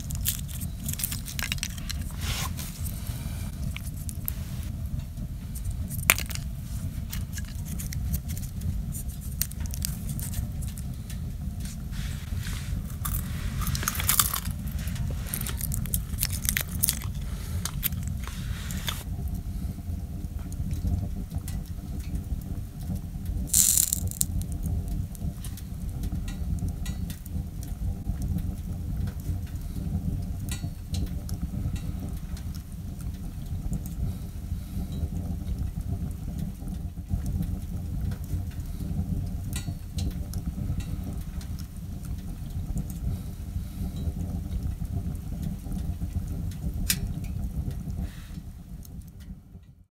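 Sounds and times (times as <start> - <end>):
low rumble of stove: 0.0 - 49.9
wood fire crackling and popping: 0.0 - 49.9.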